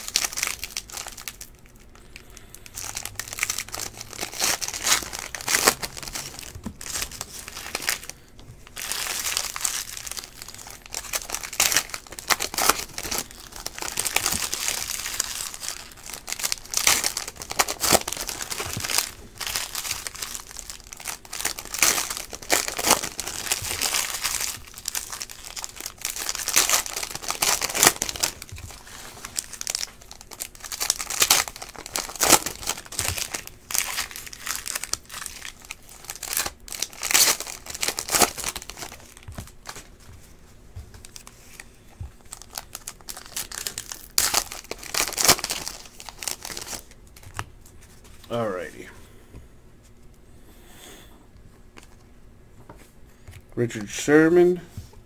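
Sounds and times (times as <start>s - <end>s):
wrappers tearing and crinkling: 0.0s - 40.1s, 40.9s - 48.4s.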